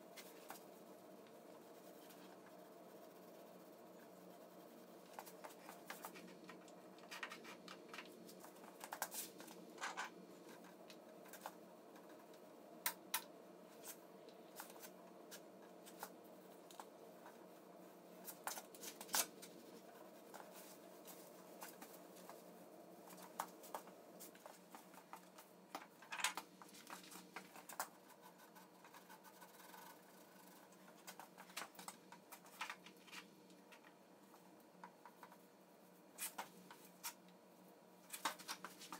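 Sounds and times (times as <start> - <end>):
low room hum: 0.0 - 38.9.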